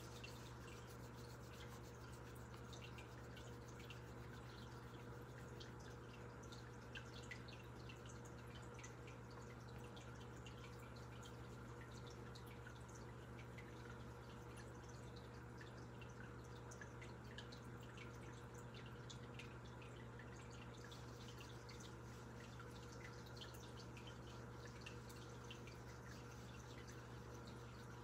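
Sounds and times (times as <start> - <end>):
wet ticks and drips at sink: 0.0 - 28.0.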